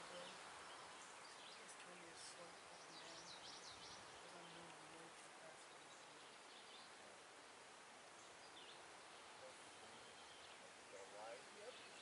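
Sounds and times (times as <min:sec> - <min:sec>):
faint bird chirps: 0:00.0 - 0:07.2, 0:08.1 - 0:12.0.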